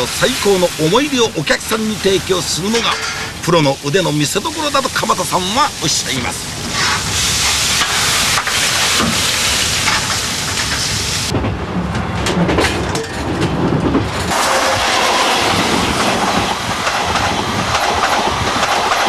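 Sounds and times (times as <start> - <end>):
train rushing along rails: 0.0 - 19.0.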